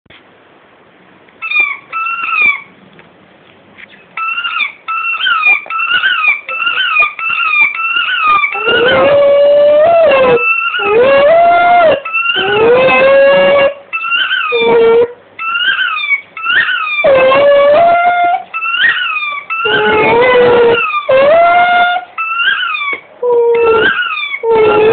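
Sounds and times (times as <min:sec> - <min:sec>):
rubber toy squeaking: 0:01.4 - 0:02.7, 0:04.2 - 0:24.9
dog howling: 0:04.2 - 0:24.9.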